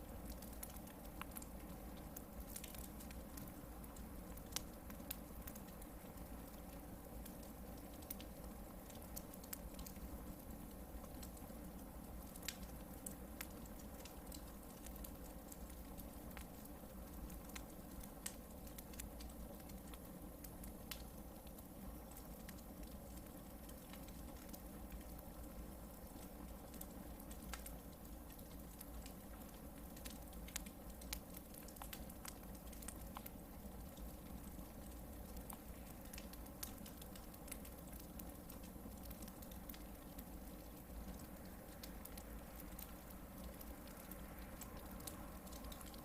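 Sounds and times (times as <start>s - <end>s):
sharp crackles and pops: 0.0s - 46.0s
campfire rushing: 0.2s - 46.0s.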